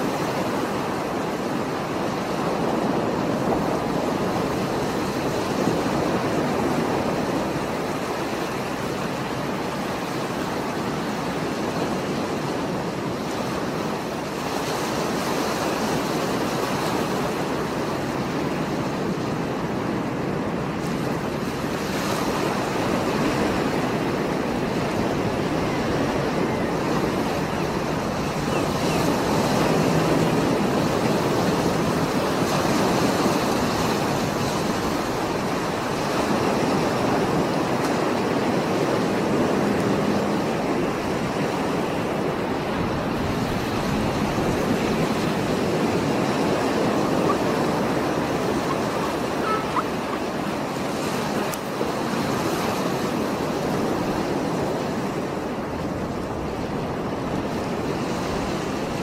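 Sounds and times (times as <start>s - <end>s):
waves breaking on rocky shore: 0.0s - 59.0s.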